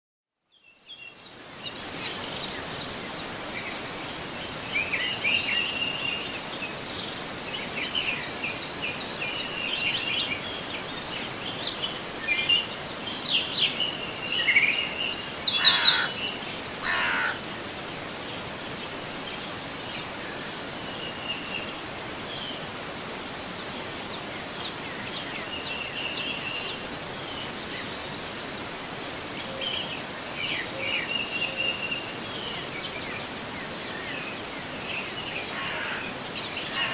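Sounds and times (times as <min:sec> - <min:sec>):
birds chirping: 0:00.9 - 0:22.8, 0:29.3 - 0:36.9
river rushing: 0:01.2 - 0:36.9.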